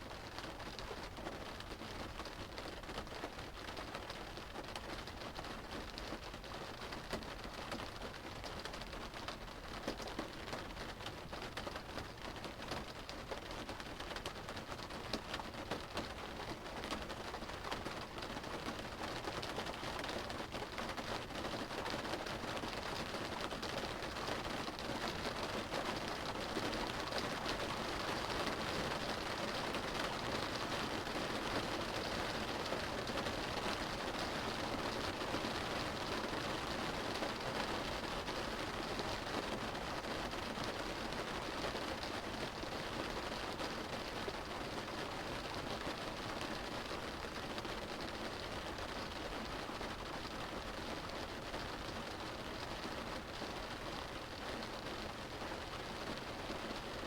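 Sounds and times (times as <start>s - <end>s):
rain drumming on a car roof: 0.0s - 57.0s.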